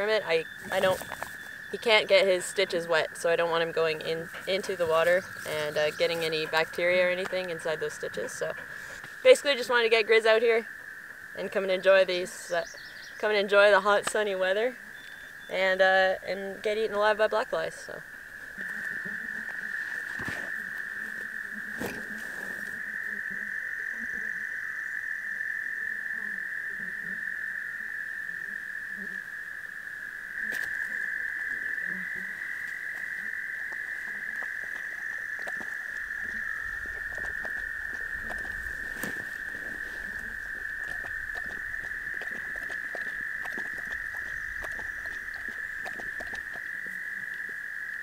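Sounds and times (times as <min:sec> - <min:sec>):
frogs trilling: 0:00.0 - 0:48.0.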